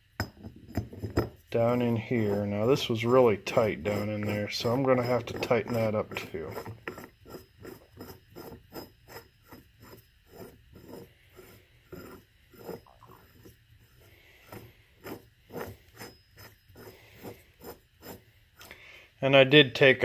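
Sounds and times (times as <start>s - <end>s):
metal threads scraping: 0.7s - 18.8s.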